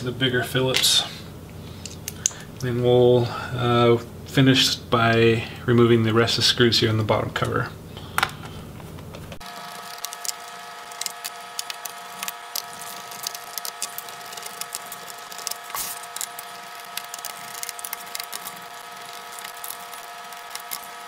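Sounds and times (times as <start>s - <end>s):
faint multi-tone whine: 0.0s - 21.0s.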